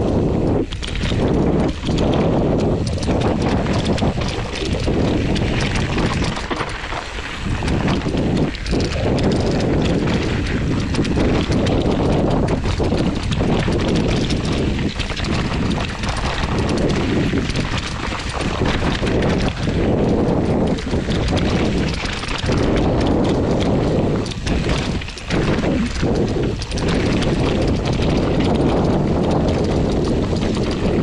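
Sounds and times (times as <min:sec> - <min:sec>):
mountain bike clattering: 0:00.0 - 0:31.0
wind rumble on microphone: 0:00.0 - 0:31.0
tyres rolling over stones: 0:00.7 - 0:31.0.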